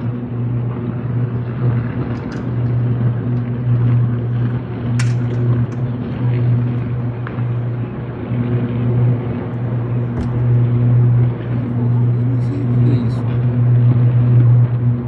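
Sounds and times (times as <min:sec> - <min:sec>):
electrical arc buzzing: 0:00.9 - 0:15.0.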